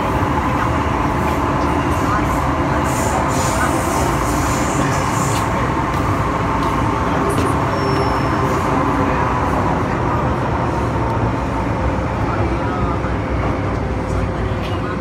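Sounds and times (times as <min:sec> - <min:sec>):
train wheels on rail: 0:00.0 - 0:15.0.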